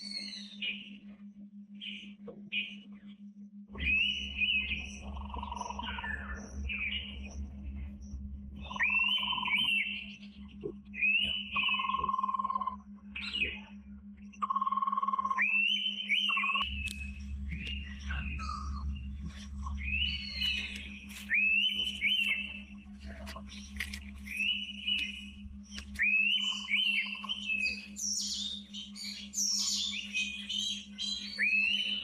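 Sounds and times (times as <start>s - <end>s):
birds whistling: 0.0s - 1.0s, 3.8s - 7.4s, 8.6s - 32.0s
low electrical hum: 0.0s - 32.0s.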